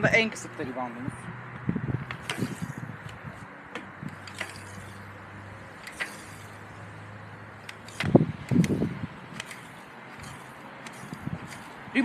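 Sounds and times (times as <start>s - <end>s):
steady low hum: 0.0s - 12.0s
suspension fork clicks and knocks: 1.6s - 11.9s.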